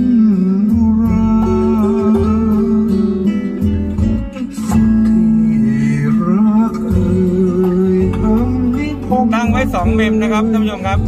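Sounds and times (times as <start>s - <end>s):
guitar-led song on car speakers: 0.0s - 11.0s
steady bass: 0.0s - 11.0s.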